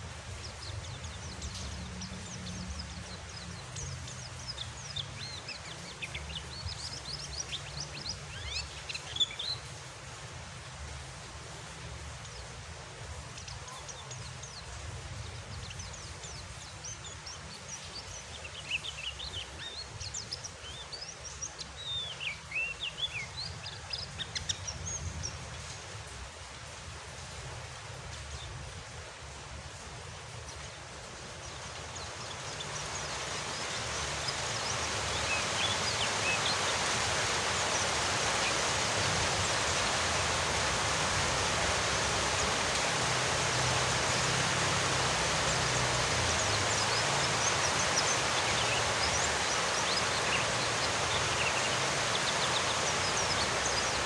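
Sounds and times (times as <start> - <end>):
songbird chirping and twittering: 0.0 - 54.0
steady rain hiss: 0.0 - 54.0.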